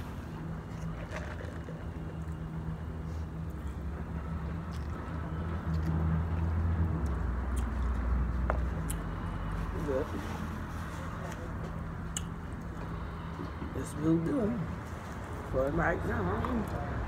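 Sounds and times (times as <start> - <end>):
vehicle traffic rumble: 0.0 - 17.0.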